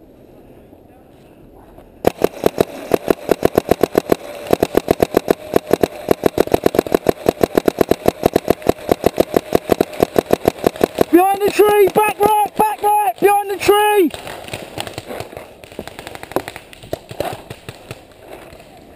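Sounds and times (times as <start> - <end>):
paintball marker firing: 2.0 - 18.8.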